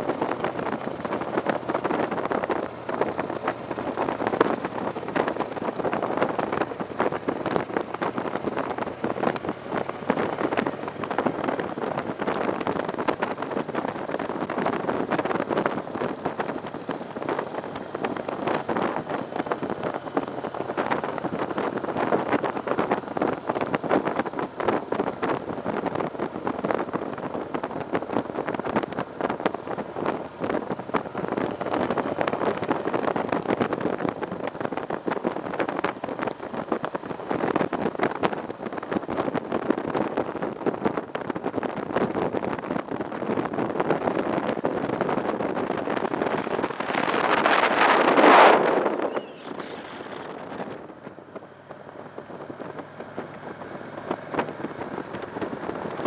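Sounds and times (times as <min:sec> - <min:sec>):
motorcycle engine drone: 0:00.0 - 0:56.0
wind rushing over microphone: 0:00.0 - 0:56.0.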